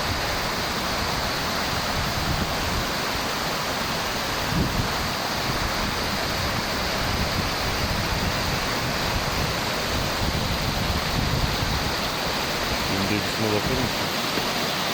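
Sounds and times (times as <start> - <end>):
spring water rushing: 0.0 - 14.9.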